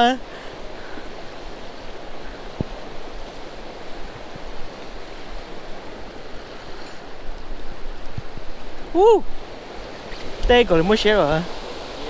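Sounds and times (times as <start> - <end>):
rain and wind on water: 0.0 - 12.0.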